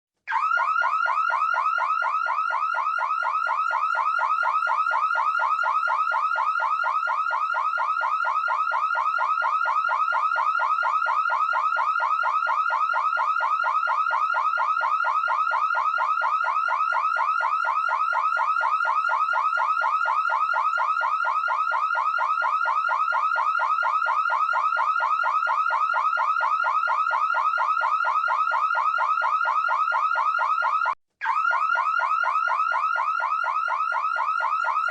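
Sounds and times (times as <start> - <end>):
electronic alarm siren warbling: 0.3 - 34.9.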